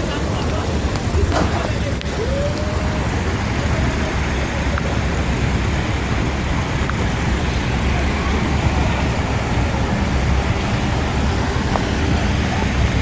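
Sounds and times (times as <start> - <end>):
rain: 0.0 - 13.0
traffic on wet streets: 0.0 - 13.0.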